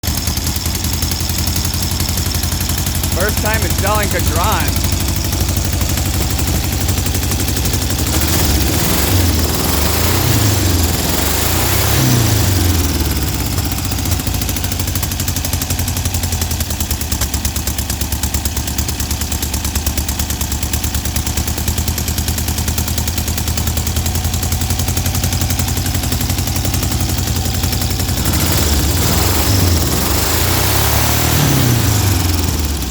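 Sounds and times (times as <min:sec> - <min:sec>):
car engine idling and revving: 0:04.7 - 0:32.9.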